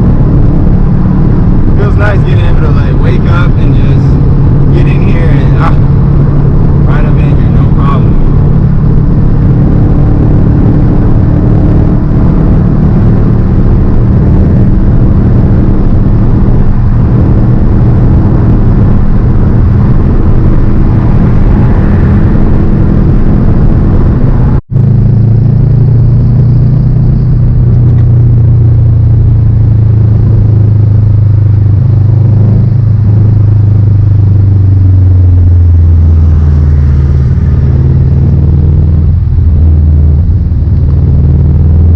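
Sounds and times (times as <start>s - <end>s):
car engine rumbling drone: 0.0s - 41.9s.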